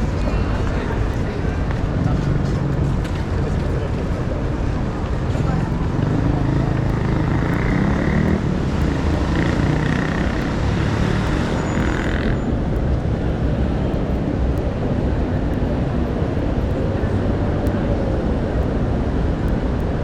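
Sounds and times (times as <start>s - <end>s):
city street rumble: 0.0s - 20.0s.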